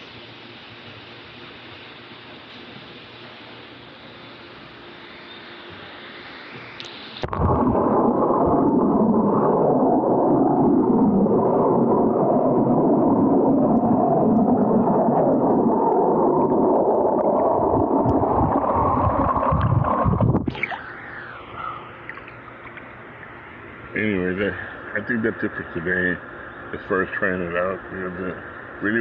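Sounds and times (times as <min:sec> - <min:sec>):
muffled underwater rushing: 0:01.0 - 0:29.0.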